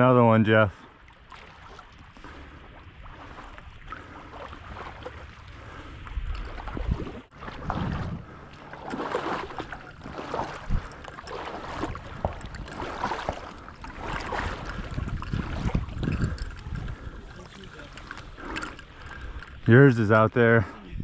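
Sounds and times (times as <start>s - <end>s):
water sloshing and splashing: 0.0s - 20.6s.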